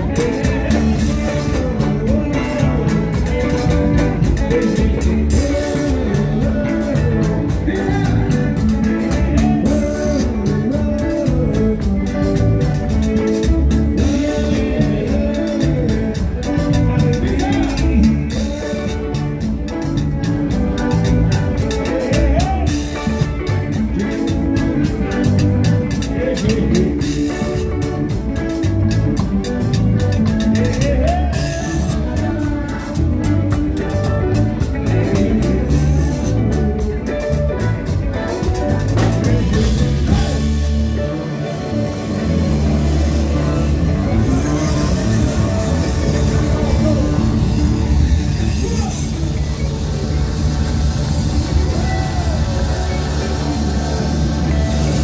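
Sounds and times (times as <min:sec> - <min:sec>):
drum kit and congas: 0:00.0 - 0:55.0
electric bass: 0:00.0 - 0:55.0
electric guitars: 0:00.0 - 0:55.0
person singing: 0:00.0 - 0:55.0.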